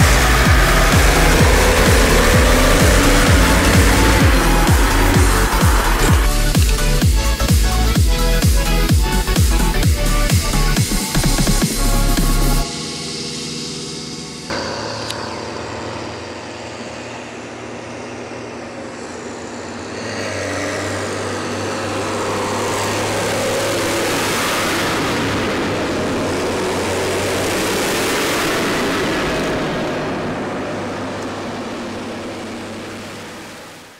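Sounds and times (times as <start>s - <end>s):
tractor engine drone: 0.0s - 33.9s
tyre and road noise: 0.0s - 33.9s.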